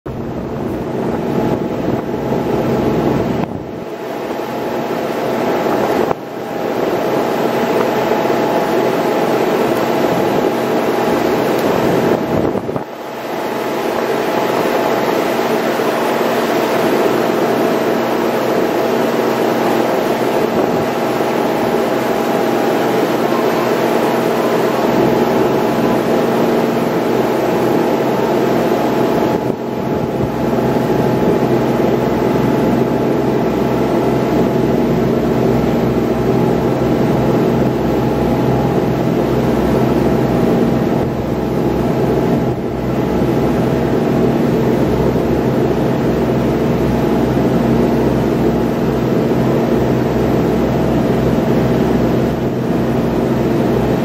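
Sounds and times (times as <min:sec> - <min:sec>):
boat engine droning: 0:00.1 - 0:54.0
steady rushing noise: 0:00.1 - 0:54.0.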